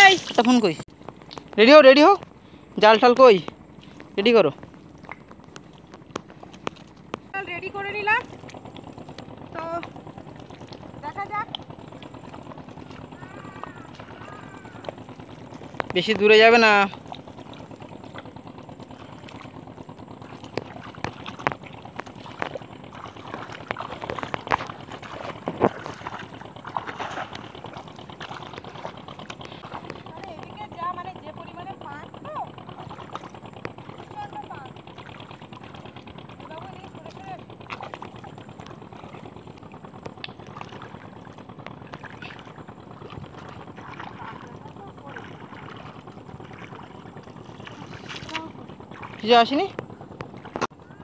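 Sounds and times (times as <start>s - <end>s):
river water splashing: 0.0s - 51.0s.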